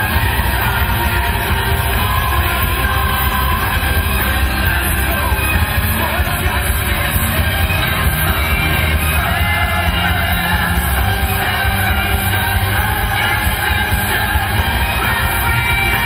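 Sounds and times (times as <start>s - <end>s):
loud music: 0.0s - 16.0s.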